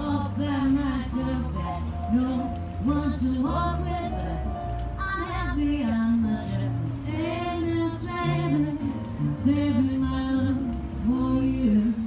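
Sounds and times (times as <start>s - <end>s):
low bass notes: 0.0s - 12.0s.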